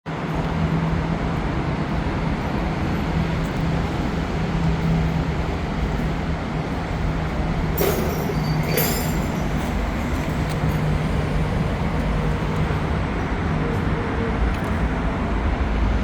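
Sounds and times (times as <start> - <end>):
road noise with low hum: 0.1 - 16.0.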